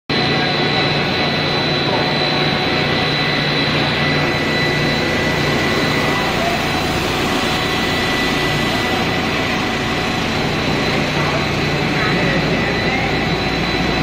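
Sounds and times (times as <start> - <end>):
high-pitched machine whine: 0.1 - 14.0
low machine hum: 0.1 - 14.0
motors and conveyors running: 0.1 - 14.0.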